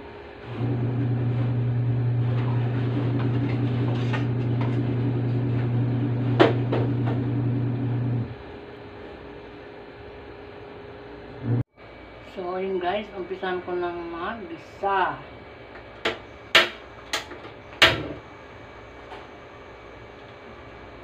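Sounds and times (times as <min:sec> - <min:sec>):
electric appliance humming: 0:00.0 - 0:21.0.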